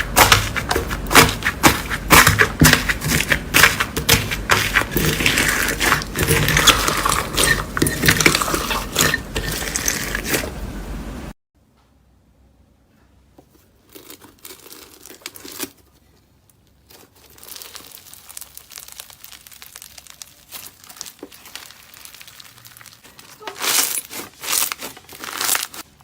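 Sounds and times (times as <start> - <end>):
slime crackling by hand: 0.0 - 10.6, 13.7 - 26.0.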